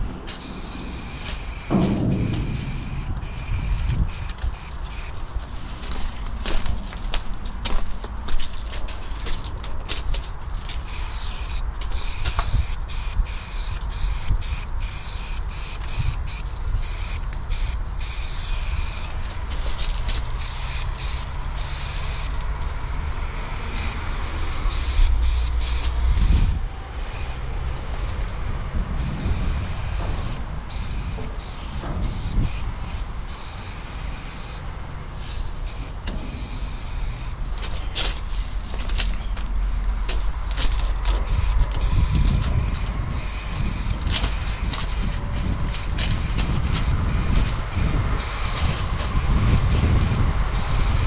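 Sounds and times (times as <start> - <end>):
steady low rumble: 0.0 - 51.0
spray-paint cans hissing: 0.3 - 27.4, 29.0 - 49.2.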